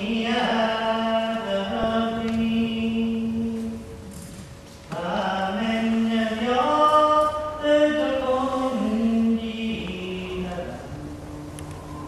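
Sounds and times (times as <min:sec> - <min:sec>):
person singing unaccompanied: 0:00.0 - 0:04.1, 0:04.9 - 0:12.0.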